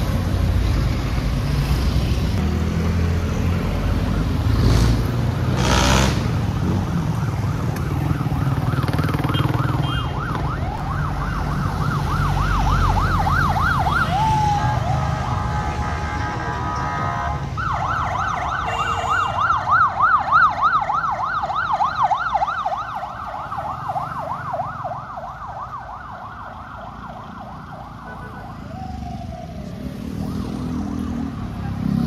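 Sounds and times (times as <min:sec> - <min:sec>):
traffic rumble: 0:00.0 - 0:32.0
emergency vehicle siren: 0:06.3 - 0:32.0.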